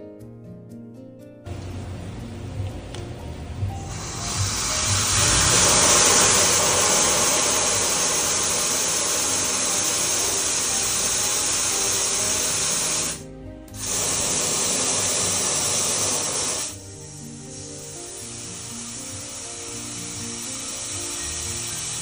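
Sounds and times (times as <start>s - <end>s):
background music: 0.0s - 22.0s
pressurised jet hissing: 3.6s - 22.0s.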